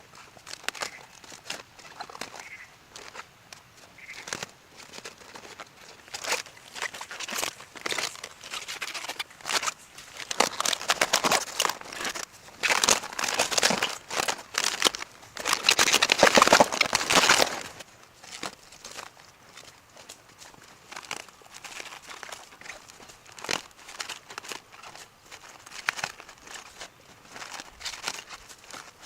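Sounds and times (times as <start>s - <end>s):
crinkling and rustling: 0.0s - 29.0s.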